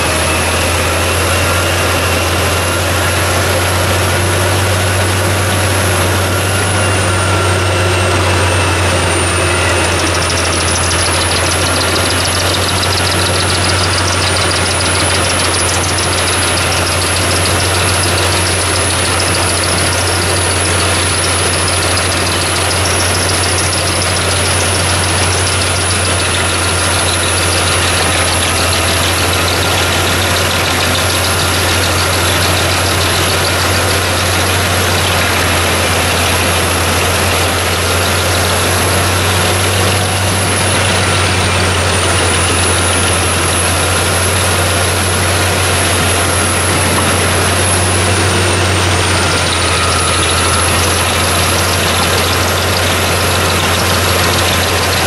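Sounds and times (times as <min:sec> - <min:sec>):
wood chipper running: 0:00.0 - 0:55.0.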